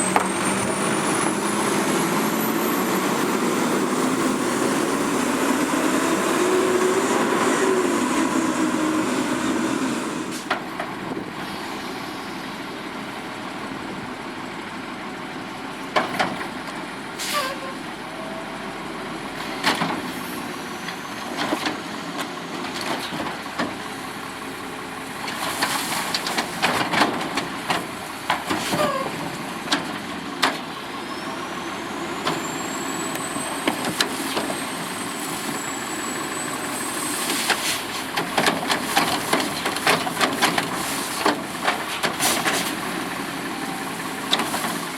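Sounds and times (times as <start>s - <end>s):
garbage truck engine running: 0.0s - 44.9s.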